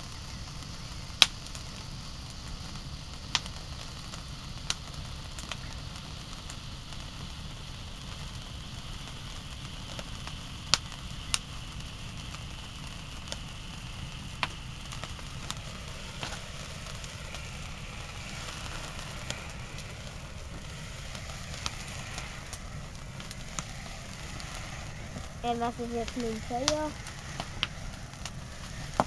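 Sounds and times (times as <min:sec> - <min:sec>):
firework cracks and pops: 0:00.0 - 0:29.0
firework fountain fizzing: 0:00.0 - 0:29.0.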